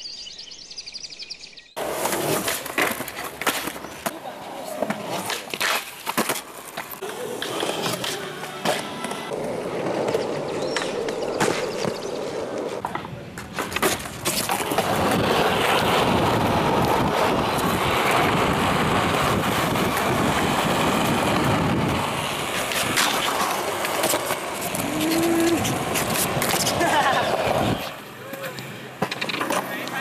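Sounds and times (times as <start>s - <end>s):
skateboard wheels rolling on concrete: 1.7s - 30.0s
skateboard clacking on ground: 1.8s - 30.0s.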